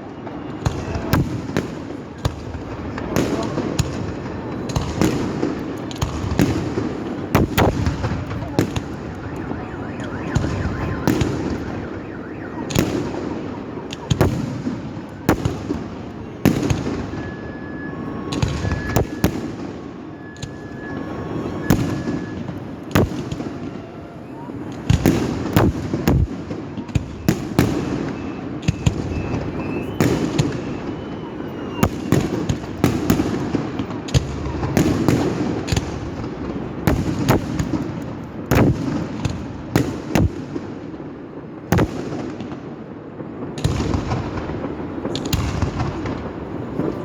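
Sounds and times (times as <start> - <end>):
distant firework rumble: 0.0 - 40.6, 41.3 - 47.0
firework bangs and crackles: 0.0 - 47.0.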